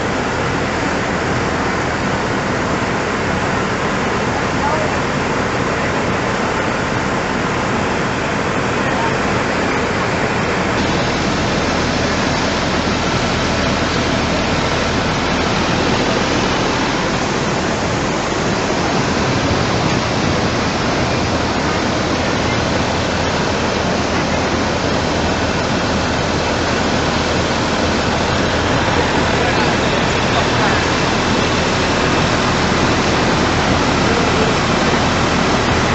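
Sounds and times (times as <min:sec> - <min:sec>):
floodwater rushing: 0:00.0 - 0:35.9.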